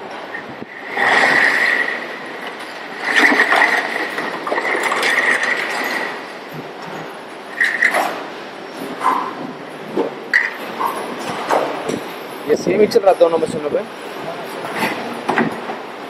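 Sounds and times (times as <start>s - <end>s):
machines running steadily: 0.0s - 16.0s.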